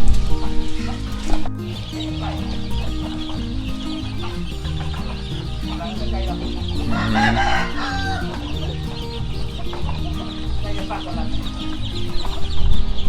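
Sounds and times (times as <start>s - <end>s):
background music of held notes: 0.0s - 13.0s
chickens clucking and cheeping: 0.0s - 13.0s.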